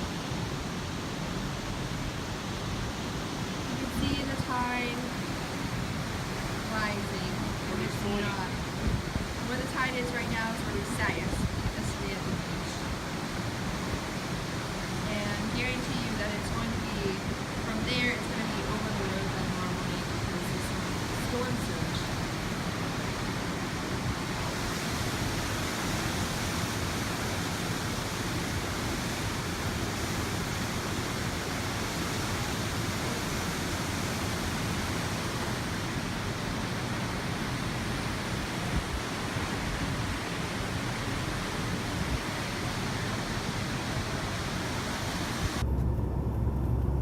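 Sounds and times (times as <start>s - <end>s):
wind blowing across microphone: 0.0s - 47.0s.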